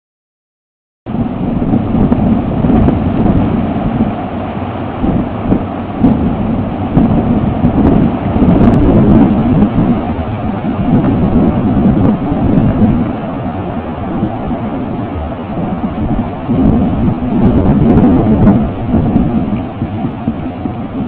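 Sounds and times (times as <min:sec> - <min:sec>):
gusty wind buffeting microphone: 0:01.1 - 0:21.0.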